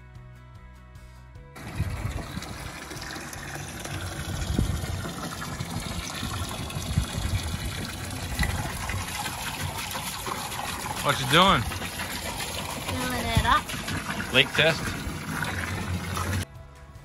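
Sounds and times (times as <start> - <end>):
hose water splashing into water: 1.6 - 16.4.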